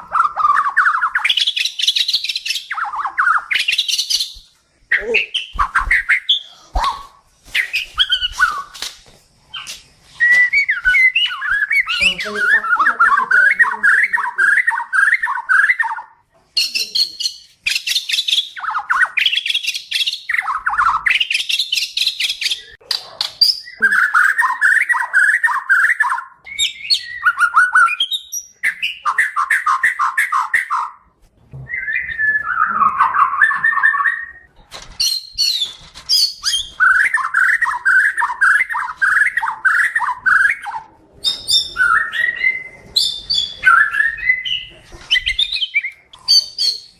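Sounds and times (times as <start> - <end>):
bird singing trills and whistles: 0.0 - 8.8, 9.5 - 31.0, 31.7 - 46.9.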